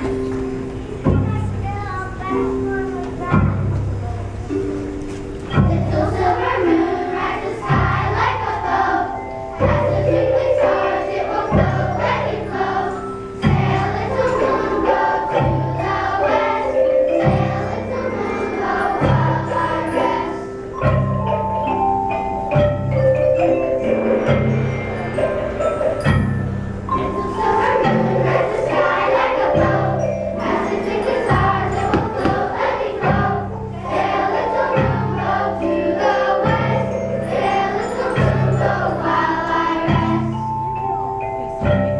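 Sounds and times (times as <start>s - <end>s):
children's choir singing: 0.0s - 41.9s
mallet percussion: 0.0s - 41.9s.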